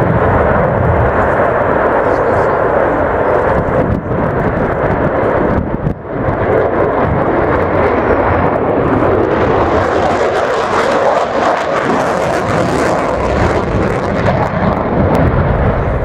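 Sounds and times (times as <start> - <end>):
jet engine afterburner roar: 0.0 - 16.0.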